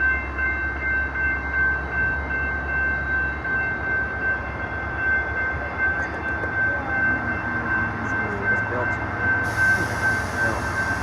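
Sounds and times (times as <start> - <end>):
diesel locomotive rumble: 1.0 - 11.0.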